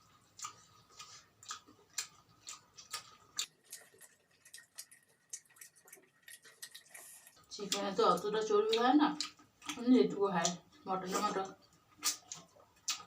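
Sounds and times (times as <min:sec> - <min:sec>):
chewing with lip smacks: 0:00.0 - 0:13.0.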